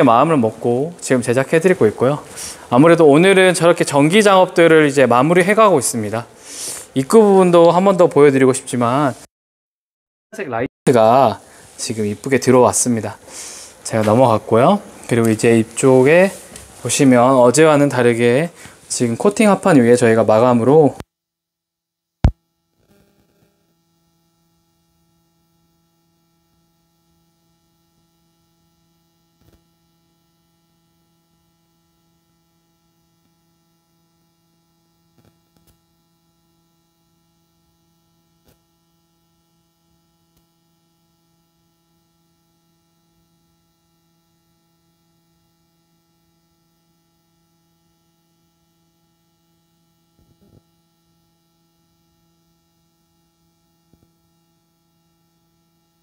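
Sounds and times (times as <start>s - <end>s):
faint electrical hum: 0.0s - 9.3s, 10.4s - 21.0s, 22.4s - 56.0s.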